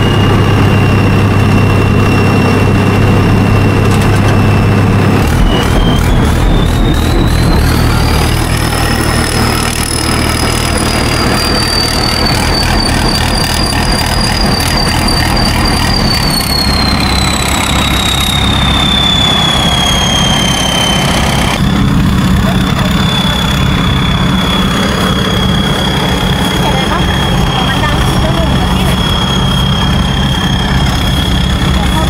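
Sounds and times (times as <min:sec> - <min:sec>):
engine whining over low rumble: 0:00.0 - 0:32.0.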